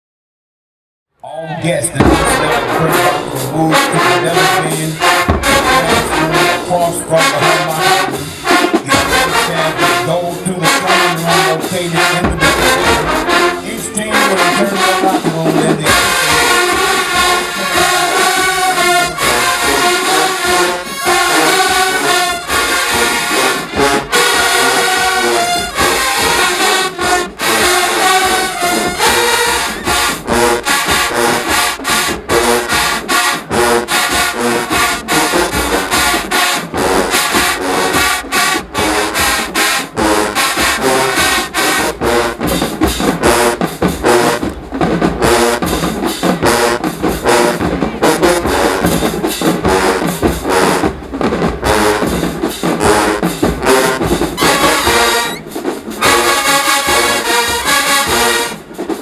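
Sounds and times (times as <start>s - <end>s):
trombones and trumpets: 1.2s - 59.0s
steady drumbeat: 1.5s - 59.0s.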